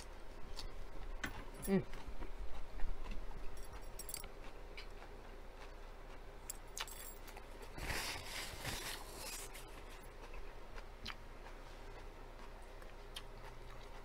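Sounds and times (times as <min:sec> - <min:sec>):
close chewing: 0:00.4 - 0:07.7, 0:08.8 - 0:14.0.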